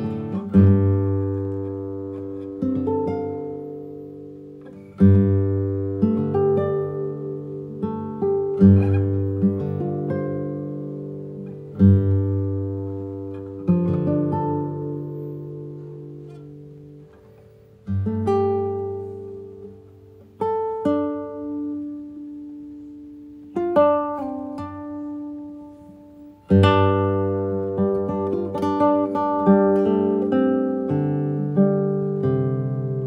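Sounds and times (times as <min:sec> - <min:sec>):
acoustic guitar slow chords: 0:00.0 - 0:33.0.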